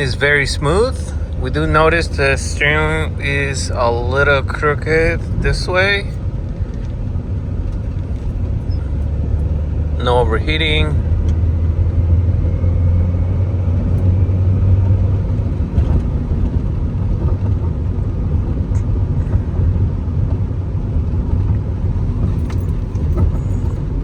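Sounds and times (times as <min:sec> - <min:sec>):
car engine and tyre drone: 0:00.0 - 0:24.0.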